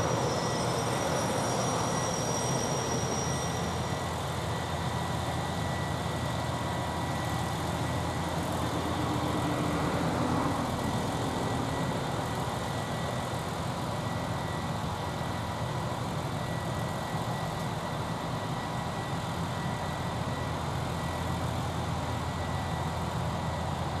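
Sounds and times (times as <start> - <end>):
electric trains humming idle: 0.0 - 24.0
thin steady whine: 0.0 - 24.0.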